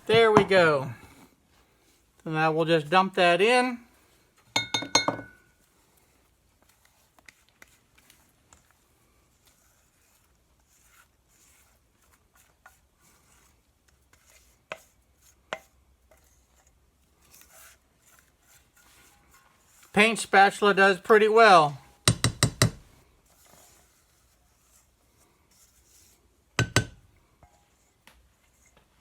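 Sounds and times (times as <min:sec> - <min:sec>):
spatula scraping batter: 0:05.4 - 0:29.0.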